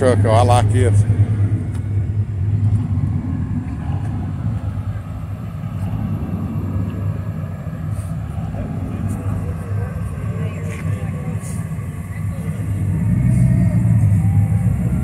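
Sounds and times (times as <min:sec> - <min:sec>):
engine idling: 0:00.0 - 0:15.0
outdoor crowd noise: 0:00.0 - 0:15.0.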